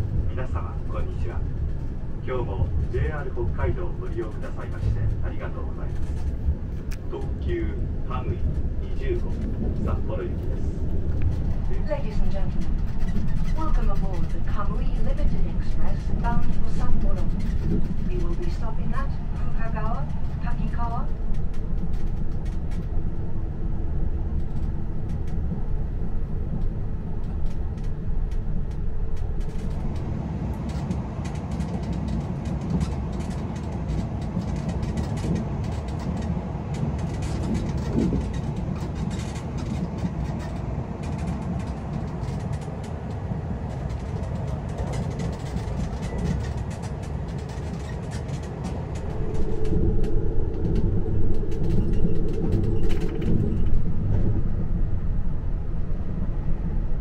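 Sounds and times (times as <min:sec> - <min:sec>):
train rumble and rail noise: 0:00.0 - 0:57.0.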